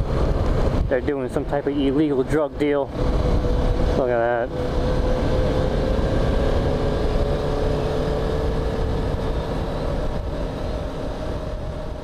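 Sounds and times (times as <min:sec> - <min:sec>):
motorcycle engine cruising: 0:00.0 - 0:12.0
road noise: 0:00.0 - 0:12.0
wind noise: 0:00.0 - 0:12.0.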